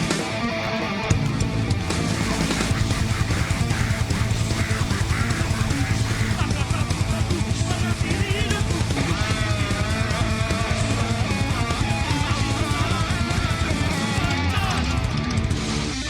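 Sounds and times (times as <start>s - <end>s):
distorted electric guitar: 0.0s - 16.0s
fast drum beat: 1.8s - 15.0s.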